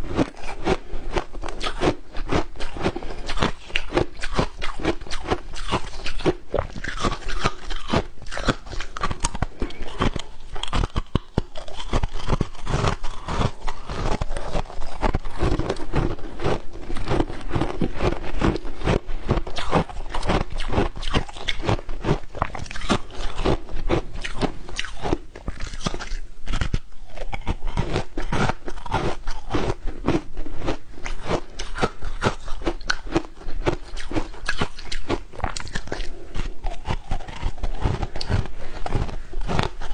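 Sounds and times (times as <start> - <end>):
person crunching ice: 0.1 - 39.9.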